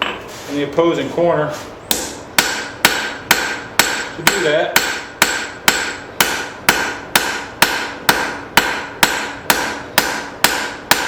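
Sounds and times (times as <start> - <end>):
hammer striking hot steel on anvil: 1.9 - 11.0.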